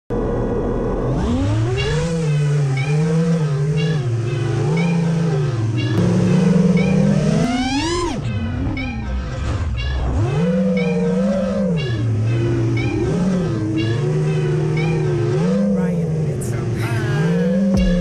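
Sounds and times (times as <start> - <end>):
quadcopter motors whining: 0.4 - 9.4, 10.0 - 18.0.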